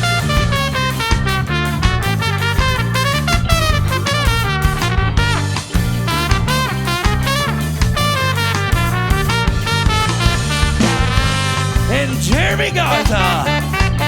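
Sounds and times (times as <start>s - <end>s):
horn melody: 0.0s - 14.0s
ska band instrumental: 0.0s - 14.0s.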